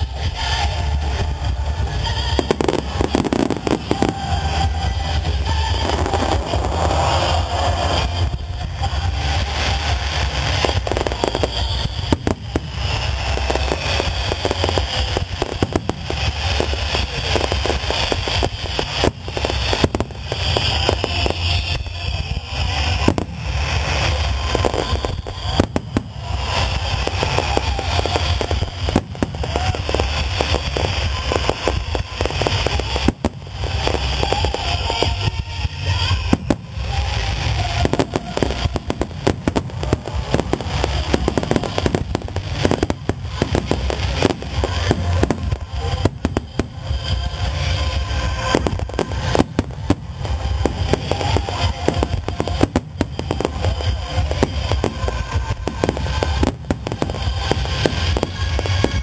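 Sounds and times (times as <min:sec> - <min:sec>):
fireworks crackling: 0:00.0 - 0:59.0
low rumble: 0:00.0 - 0:59.0.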